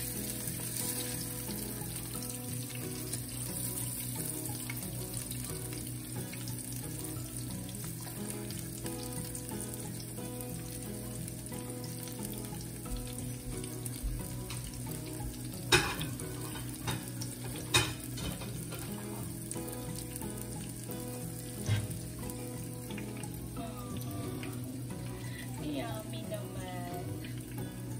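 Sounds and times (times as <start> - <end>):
food sizzling in frying pan: 0.0 - 27.9.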